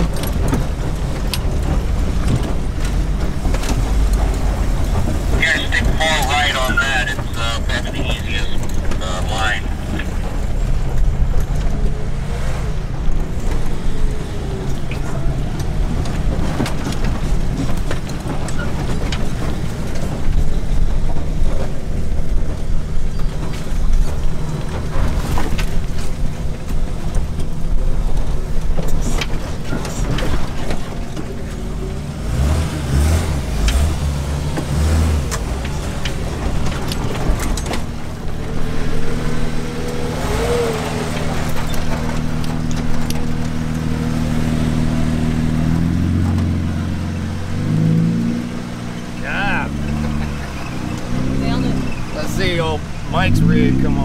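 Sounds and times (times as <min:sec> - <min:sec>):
body rattles and clicks: 0:00.0 - 0:12.1, 0:12.8 - 0:32.0, 0:34.4 - 0:47.2
car engine running slowly: 0:00.0 - 0:54.0.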